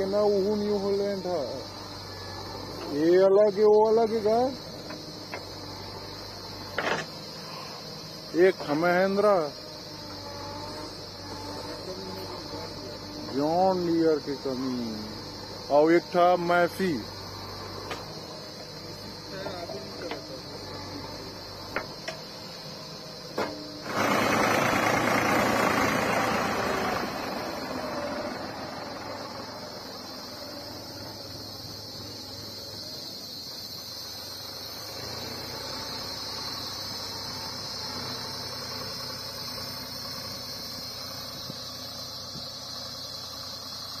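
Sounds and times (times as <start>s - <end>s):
diesel engines running: 0.0s - 44.0s
tractor engine drone: 0.0s - 44.0s.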